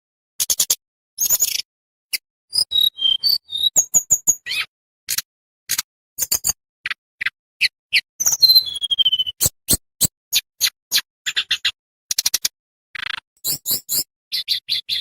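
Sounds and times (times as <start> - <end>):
songbird chips and whistles: 0.4 - 4.7, 7.2 - 15.0.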